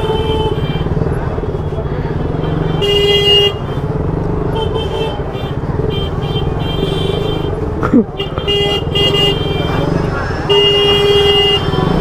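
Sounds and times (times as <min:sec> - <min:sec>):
motorcycle engine running: 0:00.0 - 0:12.0
vehicle horns honking: 0:00.0 - 0:12.0.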